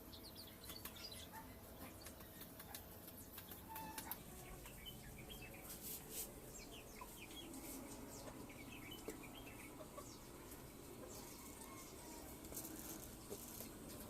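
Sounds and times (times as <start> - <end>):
chickens clucking: 0.6 - 14.0.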